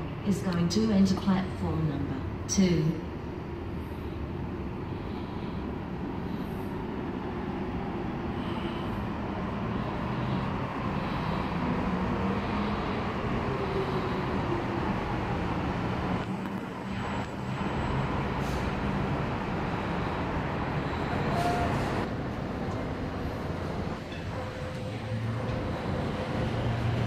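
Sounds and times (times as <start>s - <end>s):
metro train rumbling: 0.0s - 27.0s.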